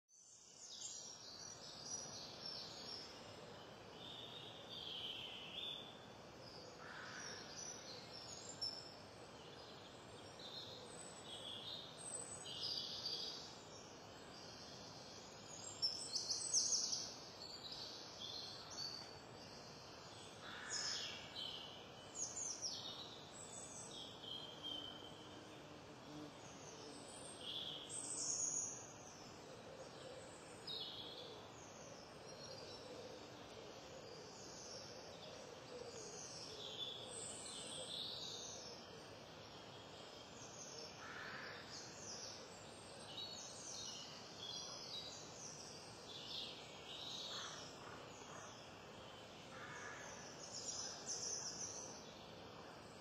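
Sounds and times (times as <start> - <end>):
songbirds chirping and twittering: 0.1 - 53.0
steady outdoor hiss: 0.1 - 53.0.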